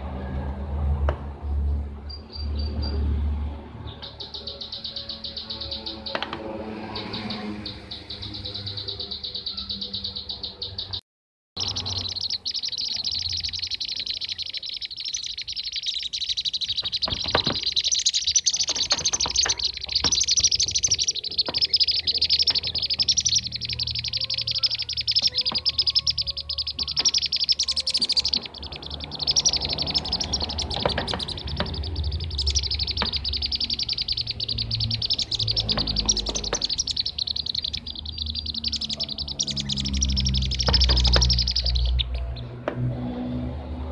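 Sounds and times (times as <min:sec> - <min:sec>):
bee-eaters chirping: 0:03.9 - 0:11.0, 0:11.6 - 0:42.6.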